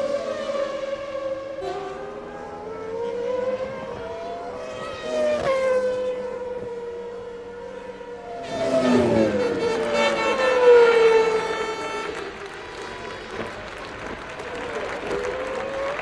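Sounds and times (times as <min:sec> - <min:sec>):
race cars passing at high revs: 0:00.0 - 0:16.0.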